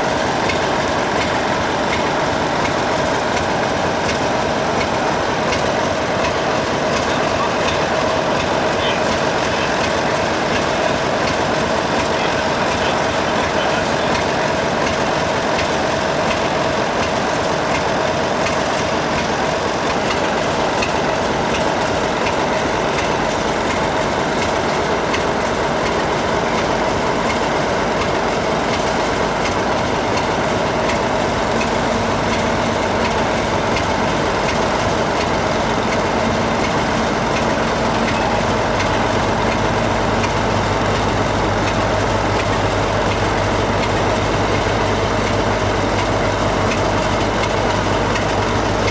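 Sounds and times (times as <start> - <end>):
train wheels rolling over rails: 0.0 - 48.9.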